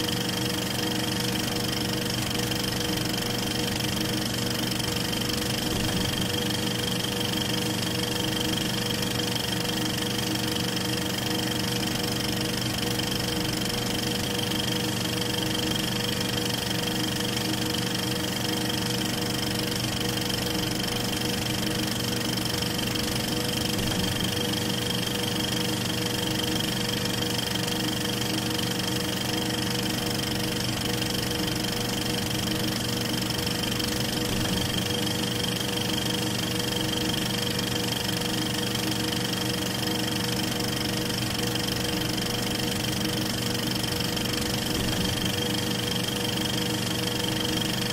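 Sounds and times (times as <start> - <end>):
film projector whirring: 0.0 - 47.9.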